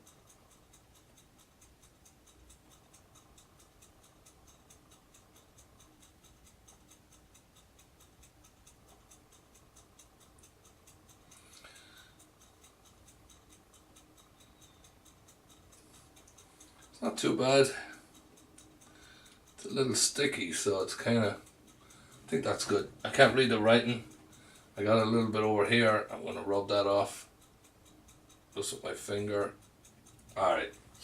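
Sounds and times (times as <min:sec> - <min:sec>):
faint fast ticking: 0:00.0 - 0:31.0.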